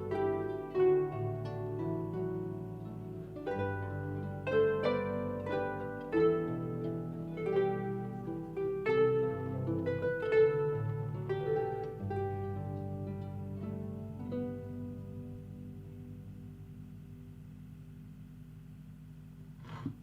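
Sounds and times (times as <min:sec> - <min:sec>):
harp music: 0:00.0 - 0:19.8.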